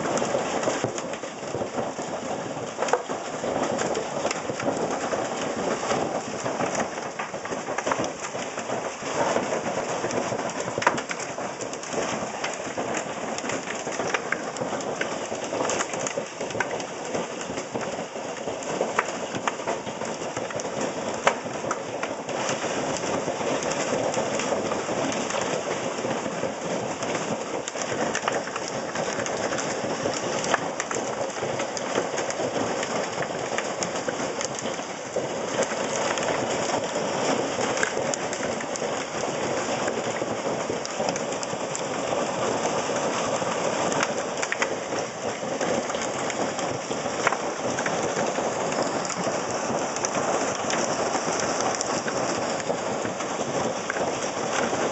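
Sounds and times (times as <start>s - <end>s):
hail pelting down: 0.0s - 54.9s.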